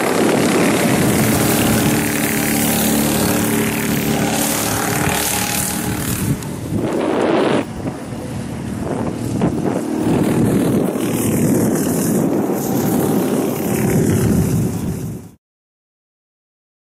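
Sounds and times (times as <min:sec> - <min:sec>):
go-kart engines droning: 0:00.0 - 0:15.3.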